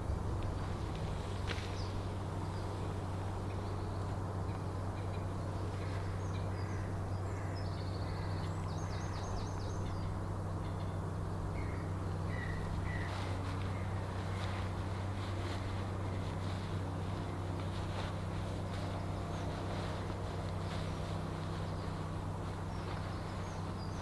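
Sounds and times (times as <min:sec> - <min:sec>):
birds calling: 0:00.0 - 0:24.0
steady low hum: 0:00.0 - 0:24.0.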